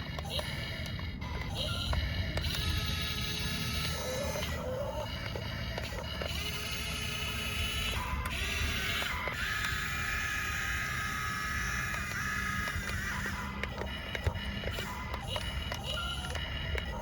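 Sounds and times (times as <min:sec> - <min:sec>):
toy gear motors whirring: 0:00.0 - 0:17.0.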